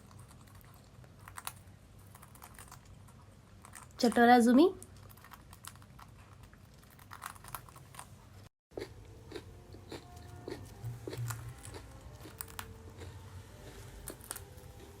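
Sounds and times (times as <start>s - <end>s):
parrot beak crunching food: 0.0s - 4.2s, 4.8s - 15.0s.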